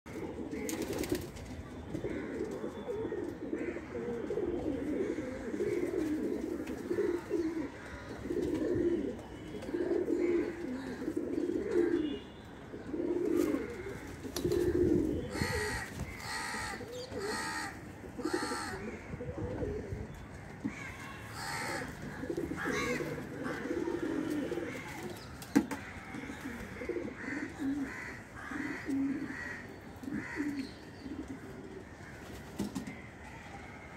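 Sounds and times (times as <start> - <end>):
pigeons cooing: 0.1 - 1.4, 2.0 - 33.0.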